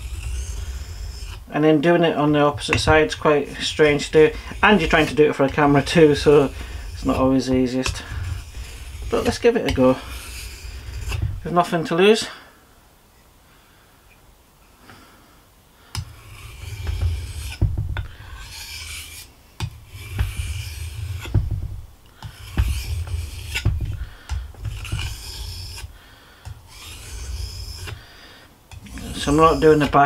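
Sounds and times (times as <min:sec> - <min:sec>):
knife grinding on whetstone: 0:00.0 - 0:01.5, 0:02.1 - 0:11.6, 0:16.0 - 0:21.6, 0:22.2 - 0:30.0.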